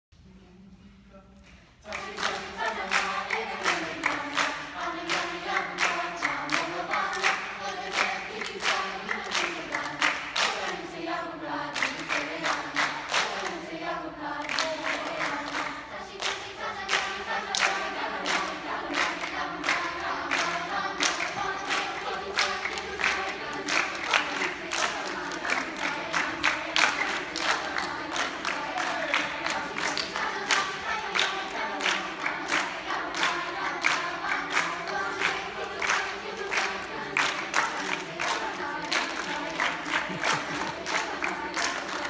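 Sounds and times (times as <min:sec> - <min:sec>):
rhythmic clapping: 0:01.4 - 0:42.0
choir singing: 0:01.8 - 0:42.0.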